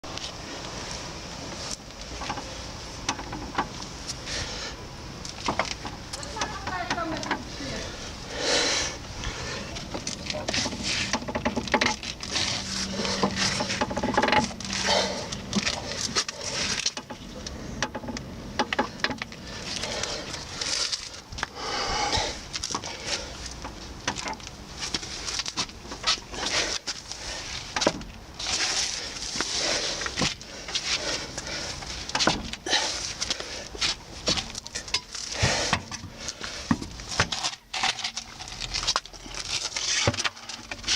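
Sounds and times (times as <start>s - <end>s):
suspension ball joint creaking: 1.7s - 40.9s.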